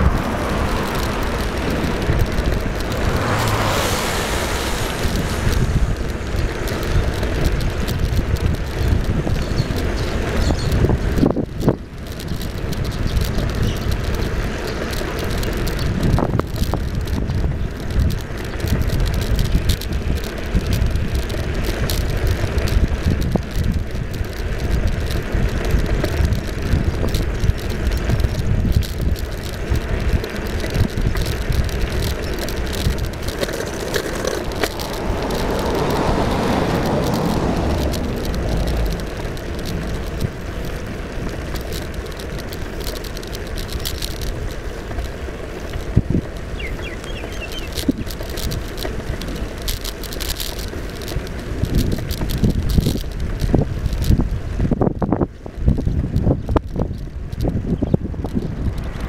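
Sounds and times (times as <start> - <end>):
road noise: 0.0 - 59.0
wind rumbling on microphone: 0.0 - 59.0.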